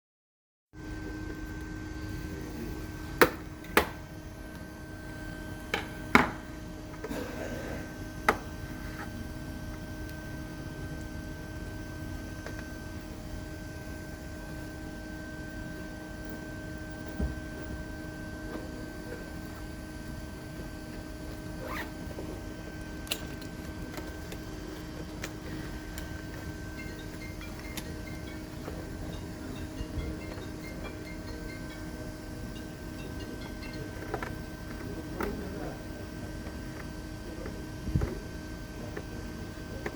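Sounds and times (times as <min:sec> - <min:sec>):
steady electrical hum: 0:00.8 - 0:39.9.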